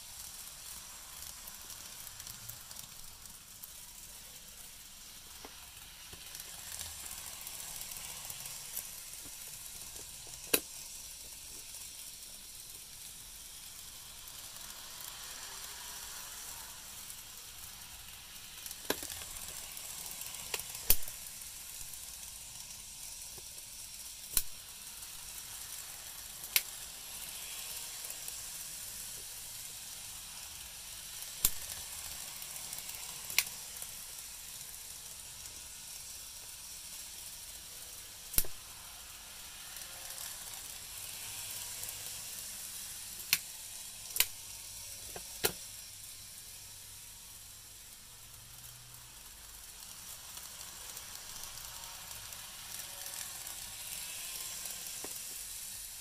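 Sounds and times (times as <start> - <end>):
model trains hissing on track: 0.0 - 56.0.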